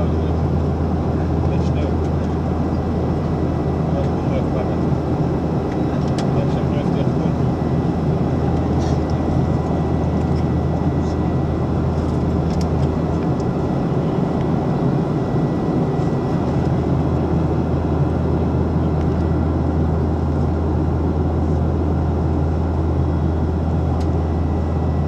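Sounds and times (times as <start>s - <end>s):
jet engine cabin roar: 0.0s - 25.0s.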